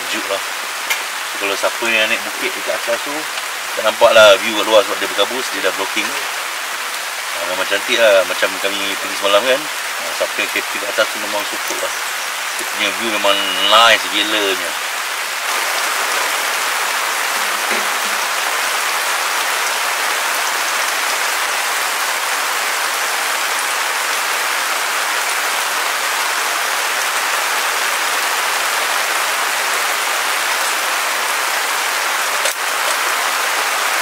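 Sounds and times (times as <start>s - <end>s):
rain on tarp and grass: 0.0s - 34.0s.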